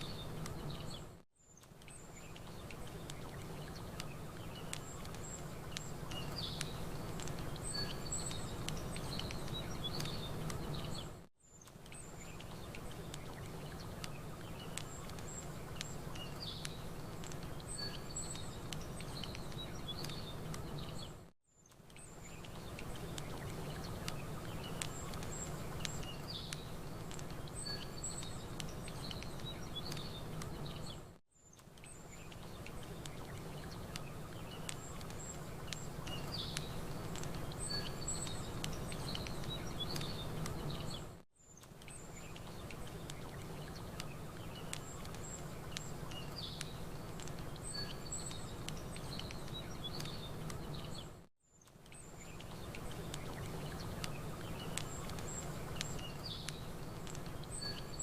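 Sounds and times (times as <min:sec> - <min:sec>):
campfire crackling: 0:00.0 - 0:58.0
small birds chirping: 0:00.0 - 0:58.0.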